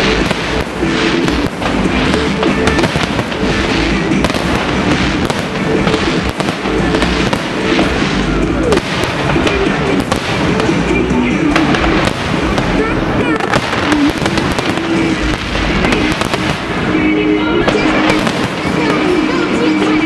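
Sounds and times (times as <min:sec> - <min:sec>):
fireworks bangs and crackling: 0:00.0 - 0:20.0
loud music: 0:00.0 - 0:20.0.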